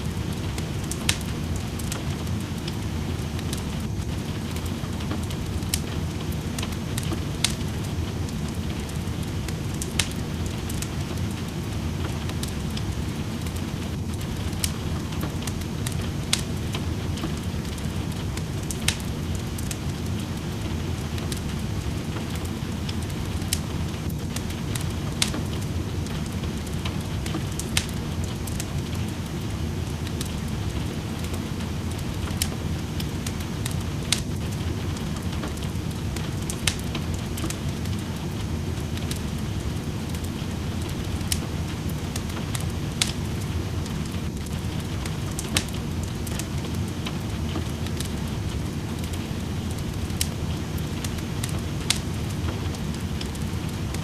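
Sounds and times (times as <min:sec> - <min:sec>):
rain: 0:00.0 - 0:54.0
wood fire crackling and popping: 0:00.0 - 0:54.0.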